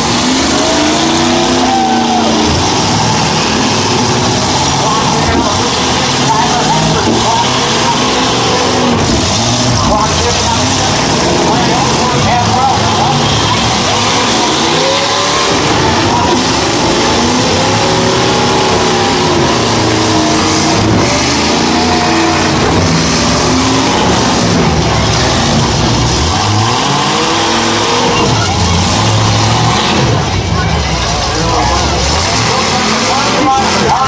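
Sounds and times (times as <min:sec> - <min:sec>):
car engines revving hard: 0:00.0 - 0:34.0.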